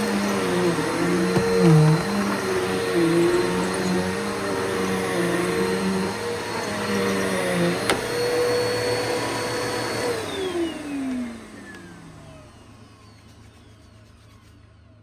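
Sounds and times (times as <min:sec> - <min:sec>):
vacuum cleaner running: 0:00.0 - 0:13.6
vacuum motor spinning down: 0:00.0 - 0:13.6.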